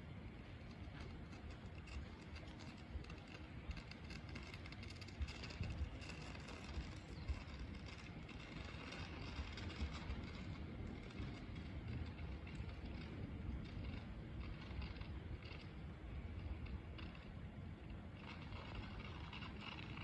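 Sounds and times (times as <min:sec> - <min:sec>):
electric train rumbling: 0:00.0 - 0:20.0
wheel and rail noise: 0:00.0 - 0:20.0.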